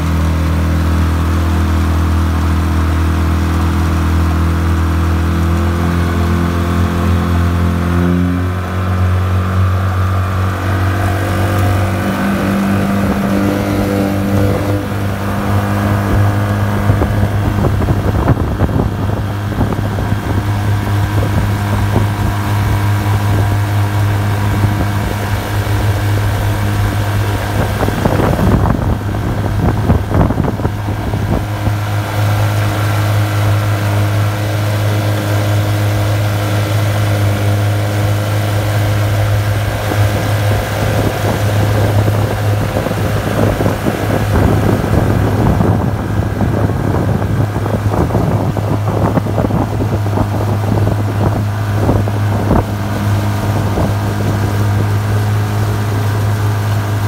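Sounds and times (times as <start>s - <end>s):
outboard motor running: 0.0s - 57.0s
water splashing against hull: 0.0s - 57.0s.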